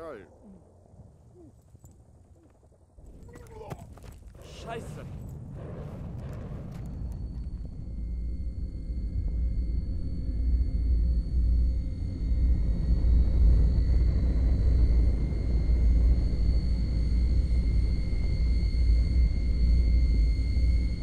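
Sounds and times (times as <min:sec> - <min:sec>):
rocket low rumble: 0:00.0 - 0:21.0.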